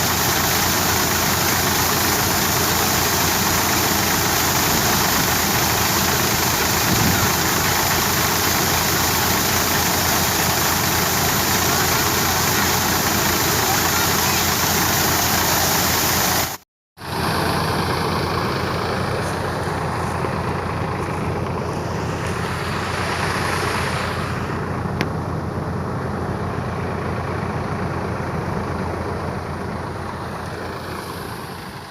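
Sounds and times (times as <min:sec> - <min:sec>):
engine hum: 0:00.0 - 0:31.9
thresher running: 0:00.0 - 0:31.9.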